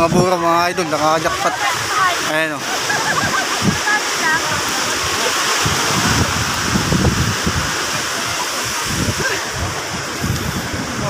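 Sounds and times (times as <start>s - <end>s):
sea surf rushing: 0.0s - 11.0s
wind buffeting microphone: 0.0s - 11.0s.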